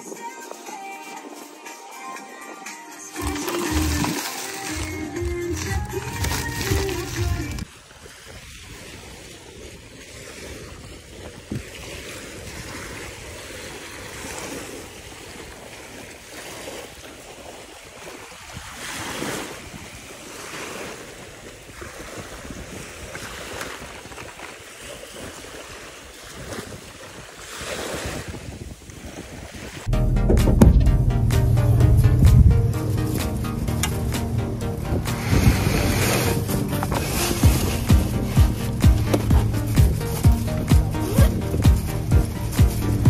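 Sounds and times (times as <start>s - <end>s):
sea waves washing onto beach: 0.0s - 29.9s, 32.7s - 43.0s
wind rumbling on microphone: 5.2s - 43.0s.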